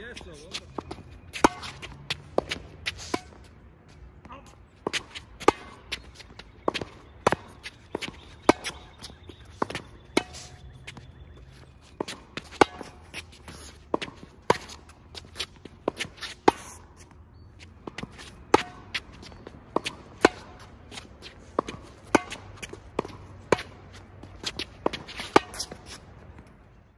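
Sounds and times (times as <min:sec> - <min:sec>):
shoes shuffling on hard court: 0:00.0 - 0:26.9
tennis ball struck by rackets: 0:00.8 - 0:03.5, 0:04.8 - 0:11.2, 0:11.9 - 0:17.1, 0:17.8 - 0:26.6.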